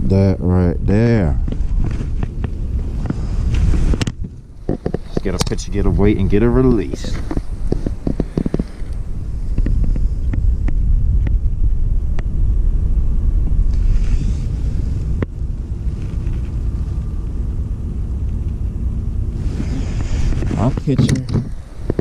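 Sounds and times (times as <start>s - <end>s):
wind rumble: 0.0s - 22.0s
microphone handling noise: 0.8s - 17.2s, 19.3s - 22.0s.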